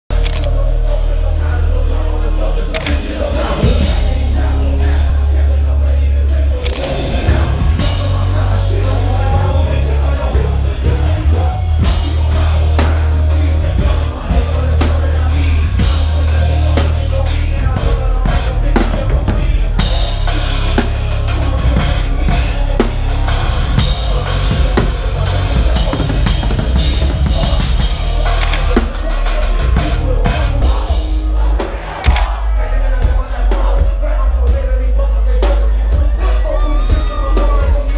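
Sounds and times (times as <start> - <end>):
heavy bass: 0.0 - 37.9
drum kit playing: 0.1 - 1.8, 2.7 - 34.8.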